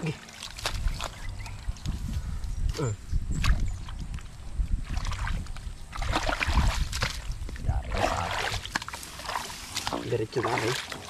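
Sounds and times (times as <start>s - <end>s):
muddy water splashing: 0.0s - 2.0s, 2.8s - 11.0s.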